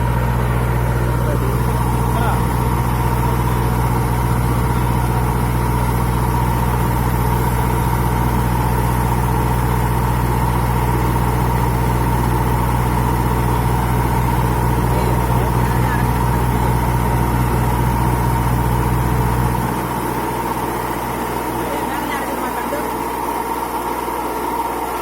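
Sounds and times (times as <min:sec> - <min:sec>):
drilling machine engine humming: 0:00.0 - 0:25.0.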